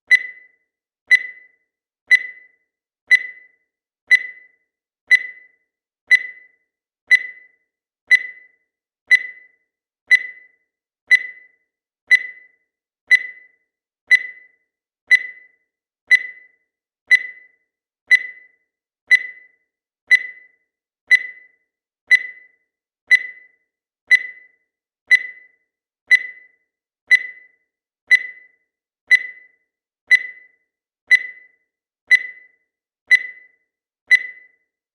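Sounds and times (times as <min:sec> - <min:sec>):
countdown timer beeping: 0:00.1 - 0:34.8.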